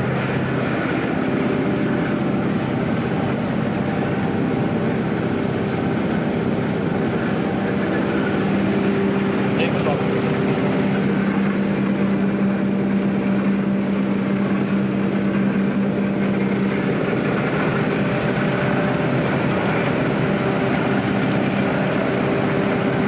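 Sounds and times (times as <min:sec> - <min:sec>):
pulveriser running: 0:00.0 - 0:23.0
steady hum: 0:00.0 - 0:23.0.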